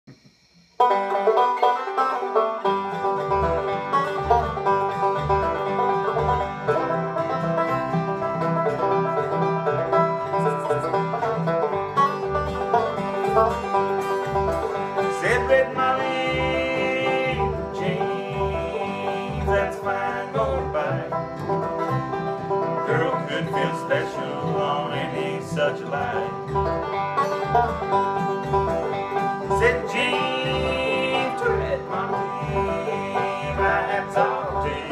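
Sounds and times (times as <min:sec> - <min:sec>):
banjo picking: 0:00.8 - 0:34.9
plucked upright bass: 0:00.8 - 0:34.9
strummed acoustic guitar: 0:00.8 - 0:34.9.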